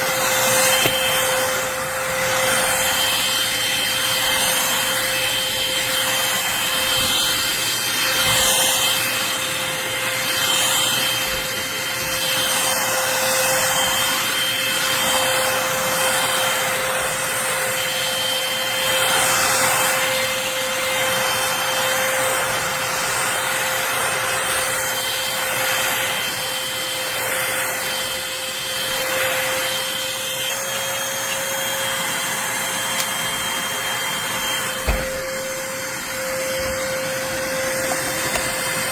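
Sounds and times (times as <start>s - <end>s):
stick vacuum motor whine: 0.0s - 38.9s.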